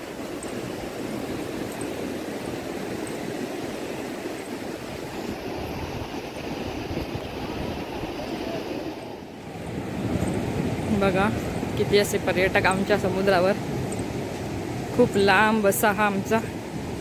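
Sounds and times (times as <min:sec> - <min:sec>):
surf on a sandy beach: 0:00.0 - 0:17.0
wind buffeting the microphone: 0:00.0 - 0:17.0.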